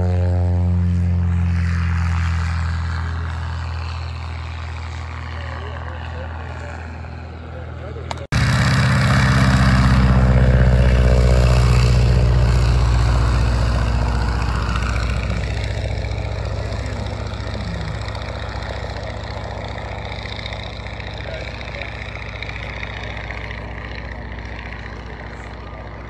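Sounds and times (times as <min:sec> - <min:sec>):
biplane engine passing: 0:00.0 - 0:26.0.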